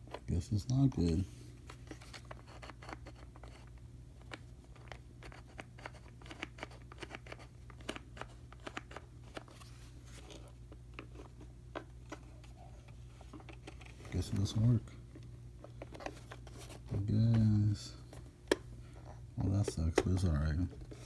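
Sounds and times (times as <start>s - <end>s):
clicks and taps handling plastic: 0.0s - 9.6s, 10.3s - 18.7s, 19.4s - 21.0s
low steady hum: 0.0s - 21.0s.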